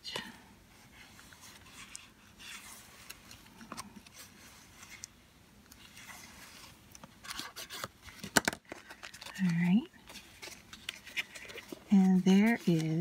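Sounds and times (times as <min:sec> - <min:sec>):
cardstock rustling and scraping: 0:00.8 - 0:13.0.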